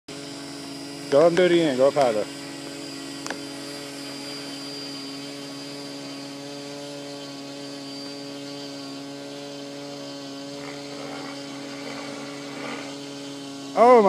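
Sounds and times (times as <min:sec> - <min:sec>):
rc helicopter hum: 0:00.1 - 0:14.0.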